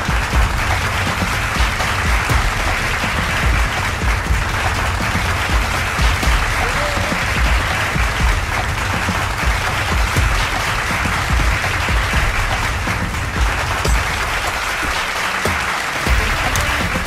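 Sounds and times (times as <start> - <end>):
audience clapping: 0.0 - 17.0
music with bass beat: 0.0 - 17.0.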